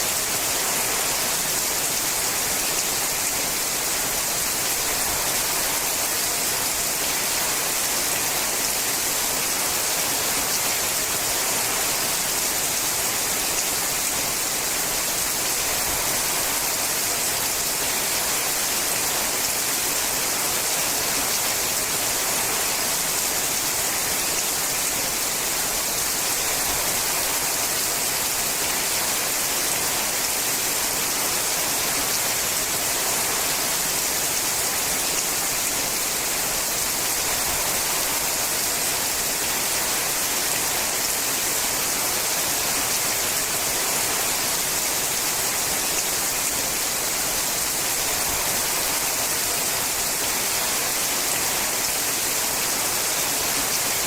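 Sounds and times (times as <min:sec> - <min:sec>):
rain on a metal roof: 0:00.0 - 0:54.0.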